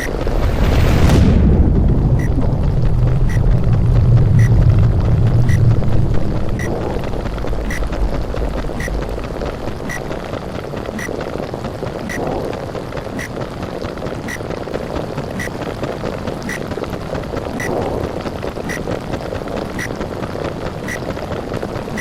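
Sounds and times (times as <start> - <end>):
underwater rumbling and bubbling: 0.0 - 22.0.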